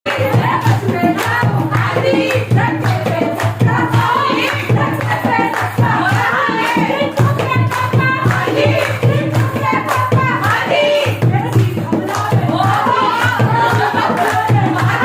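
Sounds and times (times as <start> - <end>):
sharp percussive strokes: 0.1 - 15.0.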